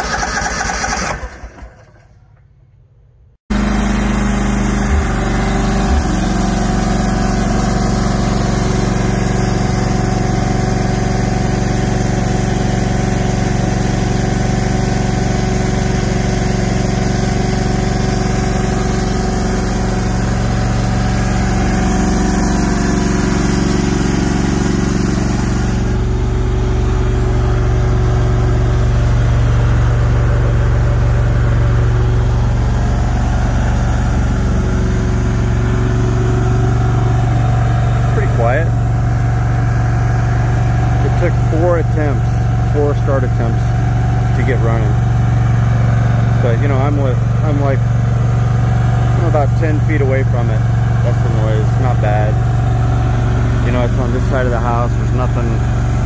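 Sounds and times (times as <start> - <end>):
generator running: 0.0 - 56.0.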